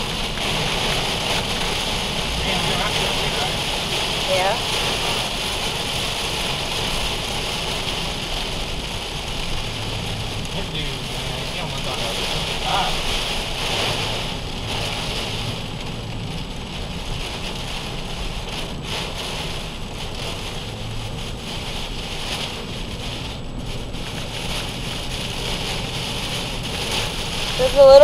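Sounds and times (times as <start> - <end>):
heavy rain on a car: 0.0 - 28.0
road and engine rumble: 0.0 - 28.0.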